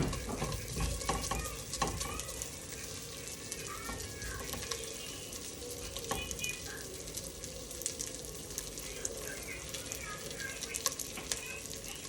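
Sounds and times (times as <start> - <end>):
sausage sizzling in a pot: 0.0 - 12.0.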